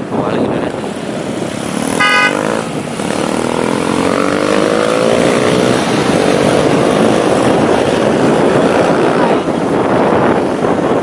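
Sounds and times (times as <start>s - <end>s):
motorbike engines accelerating: 0.0s - 11.0s
road and wind rush: 0.0s - 11.0s.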